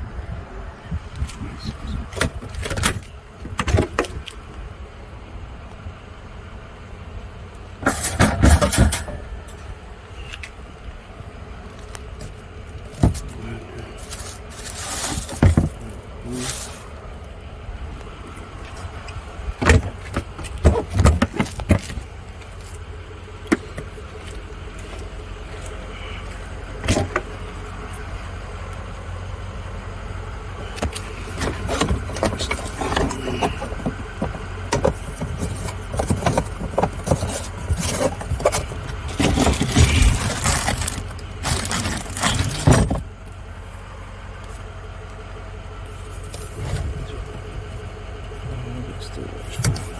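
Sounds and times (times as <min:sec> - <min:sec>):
steady low rumble: 0:00.0 - 0:49.9.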